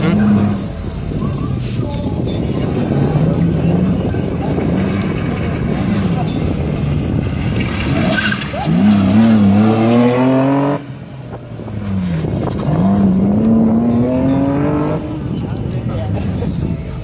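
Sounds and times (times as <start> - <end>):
race car engine revving: 0.0 - 1.9, 2.5 - 16.3.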